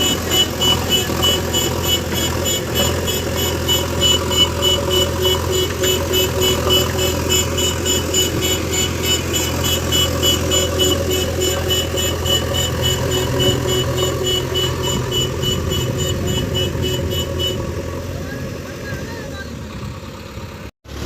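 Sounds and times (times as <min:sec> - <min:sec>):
fast high ticking: 0:00.0 - 0:17.7
heavy diesel engine running: 0:00.0 - 0:21.0.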